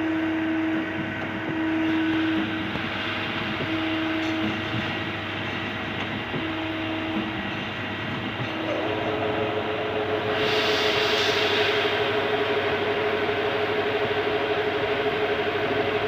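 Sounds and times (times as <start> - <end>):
lathe machine humming: 1.6 - 16.0.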